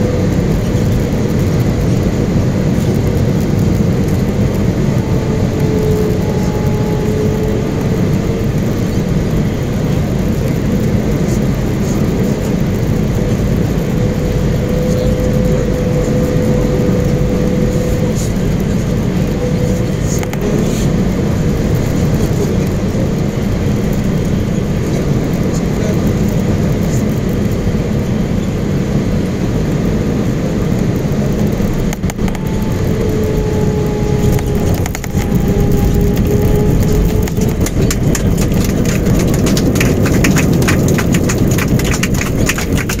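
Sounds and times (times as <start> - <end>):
jet engines and airflow rush: 0.0 - 43.0.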